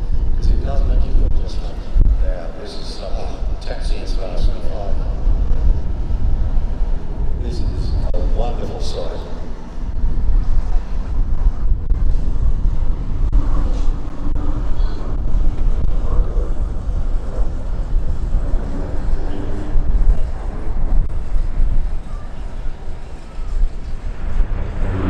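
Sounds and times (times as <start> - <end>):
aircraft engines rumbling: 0.0 - 25.0.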